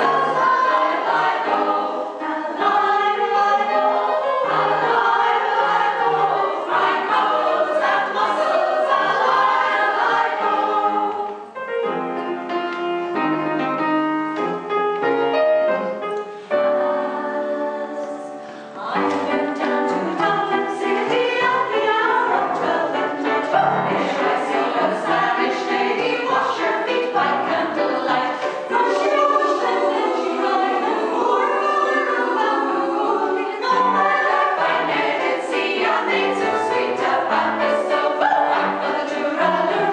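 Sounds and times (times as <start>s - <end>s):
choir singing: 0.0s - 12.4s, 15.6s - 39.9s.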